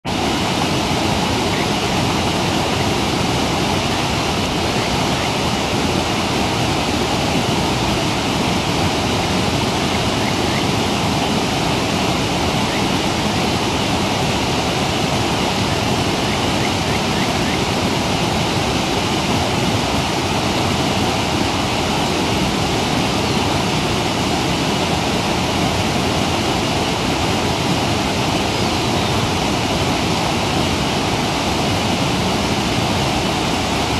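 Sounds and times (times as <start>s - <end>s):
waterfall and stream rushing: 0.0s - 33.9s.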